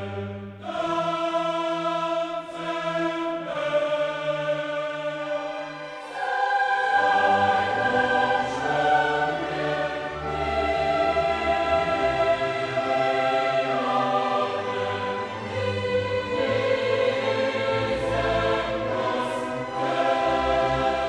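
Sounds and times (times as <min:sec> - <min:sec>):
choir singing held chords: 0:00.0 - 0:21.0.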